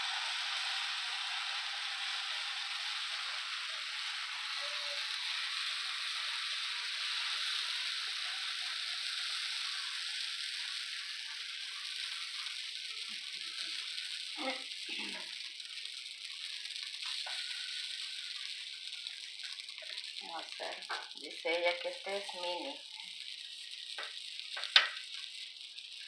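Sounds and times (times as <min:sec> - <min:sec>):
pancakes sizzling on griddle: 0:00.0 - 0:26.0.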